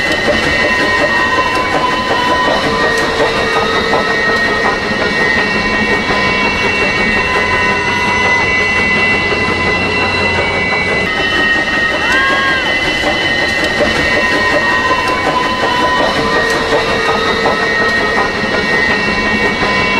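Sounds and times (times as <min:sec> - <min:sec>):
train running on track: 0:00.0 - 0:19.9
high tones: 0:00.7 - 0:19.9.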